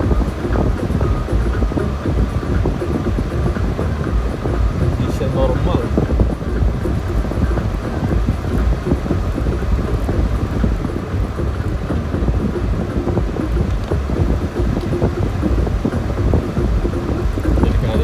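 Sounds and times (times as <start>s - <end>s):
road and tyre rumble: 0.0s - 18.0s.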